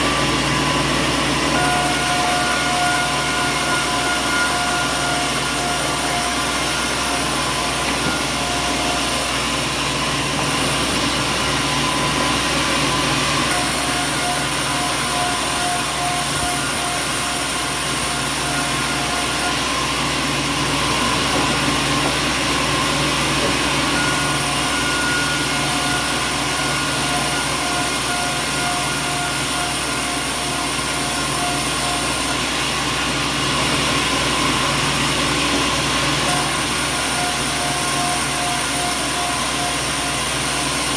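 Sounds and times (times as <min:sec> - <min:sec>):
machinery hum and whir: 0:00.0 - 0:40.9.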